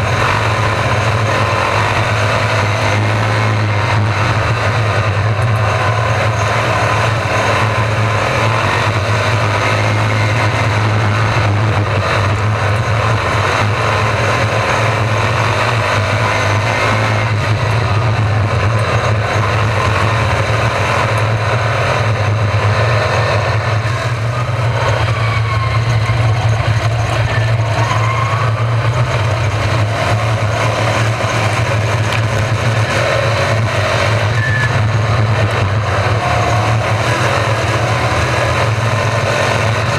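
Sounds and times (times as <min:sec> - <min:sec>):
race car engines passing: 0:00.0 - 0:39.9
steady low drone: 0:00.0 - 0:39.9.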